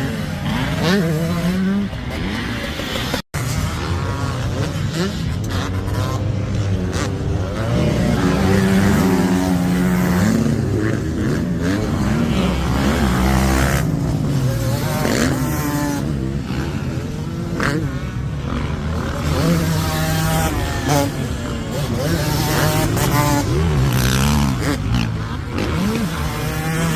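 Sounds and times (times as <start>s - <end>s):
motorcycle engines revving: 0.0s - 26.9s.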